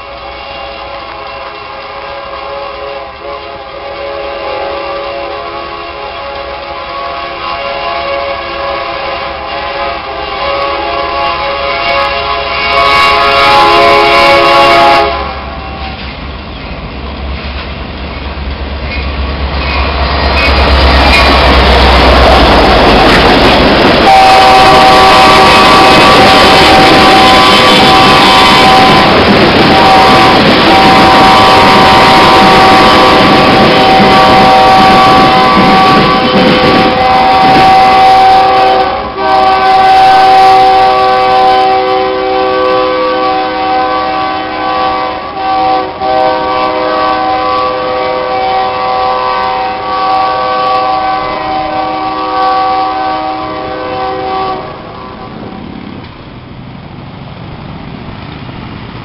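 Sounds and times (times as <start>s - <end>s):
locomotive air horn chord: 0.0s - 16.0s, 24.0s - 55.5s
freight train cars rumbling: 0.0s - 59.0s.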